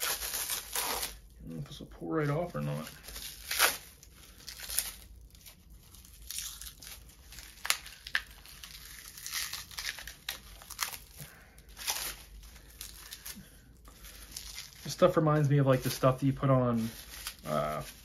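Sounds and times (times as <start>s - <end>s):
plastic wrap crinkling and tearing: 0.0s - 18.0s.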